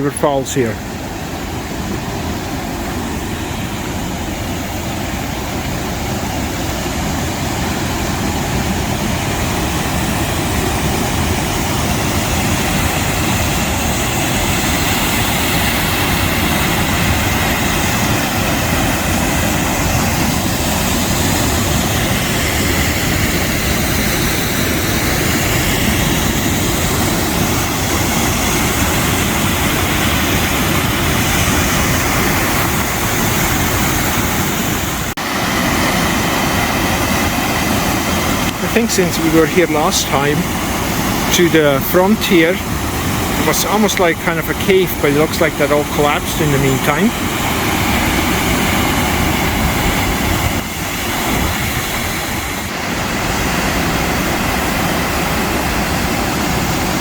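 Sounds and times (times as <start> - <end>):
river water rushing over rapids: 0.0 - 57.0.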